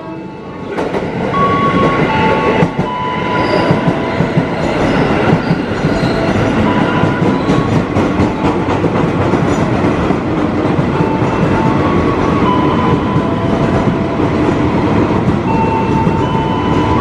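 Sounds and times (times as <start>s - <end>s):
electric train rumble and whine: 0.0s - 17.0s.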